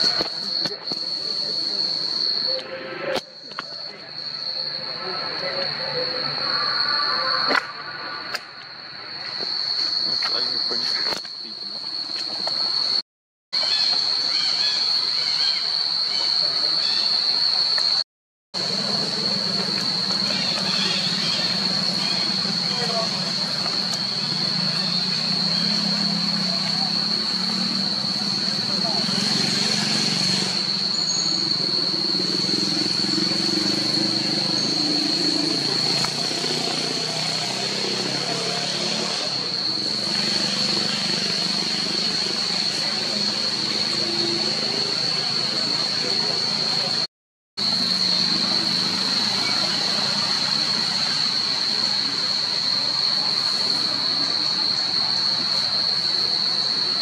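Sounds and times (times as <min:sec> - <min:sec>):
insect drone: 0:00.0 - 0:13.0, 0:13.6 - 0:18.0, 0:18.6 - 0:57.0.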